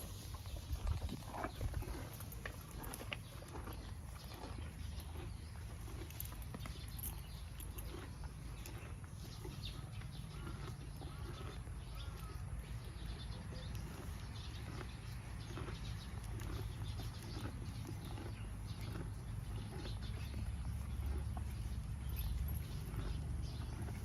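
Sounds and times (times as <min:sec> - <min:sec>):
cow tearing and chewing grass: 0:00.0 - 0:24.0.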